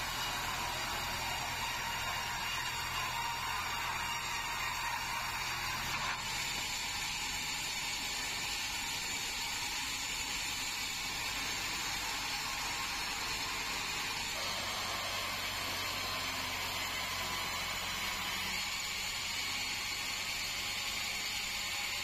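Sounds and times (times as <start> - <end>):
band saw whirring: 0.0 - 22.0.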